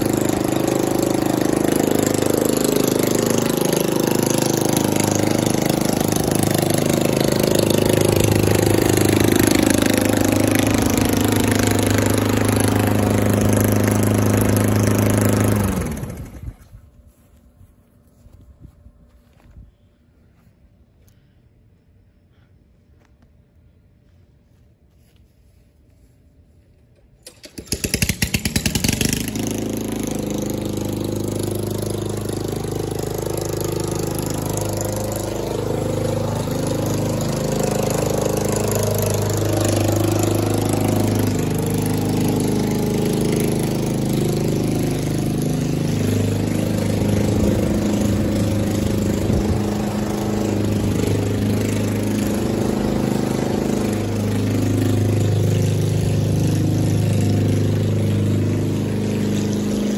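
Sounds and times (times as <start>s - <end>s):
lawn mower engine running: 0.0s - 17.2s, 26.8s - 59.9s.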